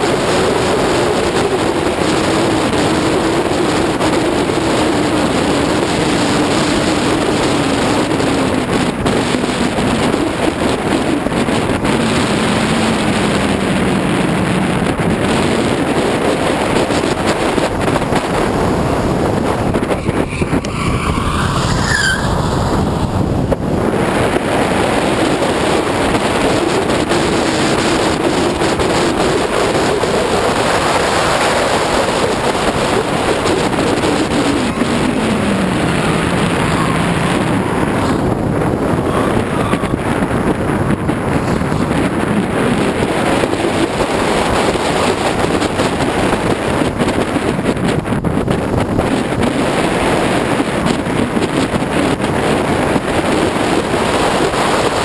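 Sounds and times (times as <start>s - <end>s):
car engine driven on track: 0.0s - 55.0s
heavy wind rush: 0.0s - 55.0s.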